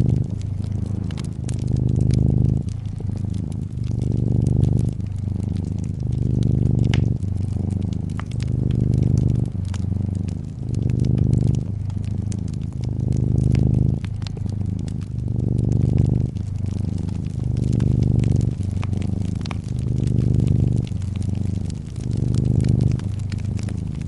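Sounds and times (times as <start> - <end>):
cat purring: 0.0 - 24.0
fireplace wood crackling: 0.0 - 24.0.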